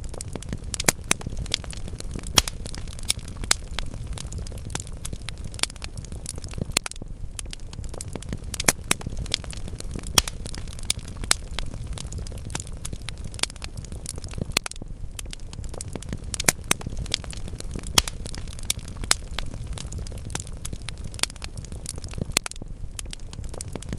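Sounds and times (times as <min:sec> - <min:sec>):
fire crackling and popping: 0:00.0 - 0:23.9
low rumble of flames: 0:00.0 - 0:23.9.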